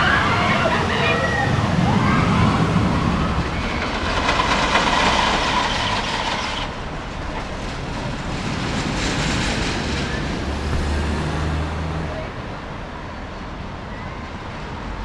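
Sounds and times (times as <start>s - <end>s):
ride cars rumbling on rails: 0.0s - 15.0s.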